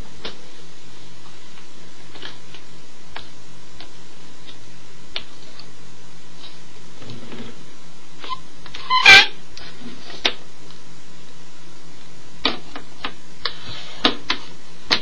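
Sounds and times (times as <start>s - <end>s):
steady hiss and low hum: 0.0s - 15.0s.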